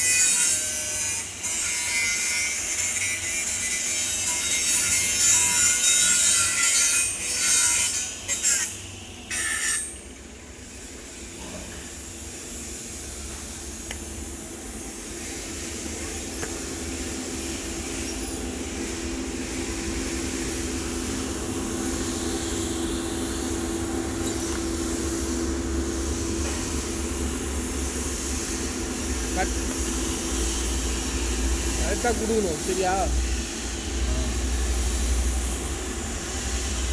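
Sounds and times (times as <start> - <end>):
welding arc hissing and humming: 0.0 - 36.9.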